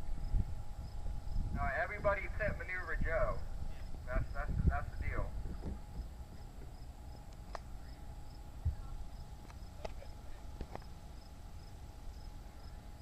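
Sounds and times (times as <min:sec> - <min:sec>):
wind rumbling on microphone: 0:00.0 - 0:10.9.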